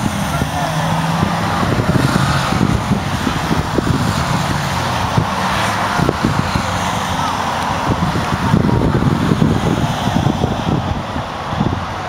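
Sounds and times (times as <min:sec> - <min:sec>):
vehicle engines driving past: 0:00.0 - 0:12.0.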